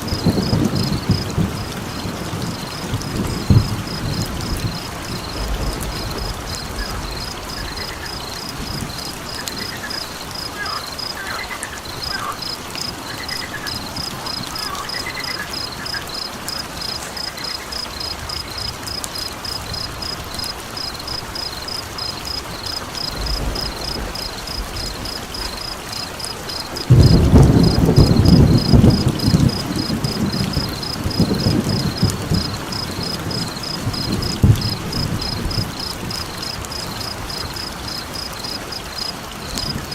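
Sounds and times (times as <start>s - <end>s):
low rumble of thunder: 0.0s - 10.6s, 11.3s - 38.8s
steady rain: 0.0s - 39.9s.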